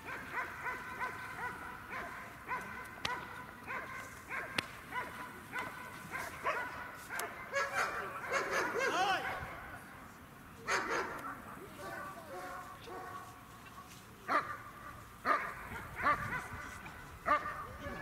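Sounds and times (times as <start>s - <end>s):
dog barking: 0.0s - 9.6s, 10.7s - 13.2s, 14.3s - 14.6s, 15.2s - 17.8s.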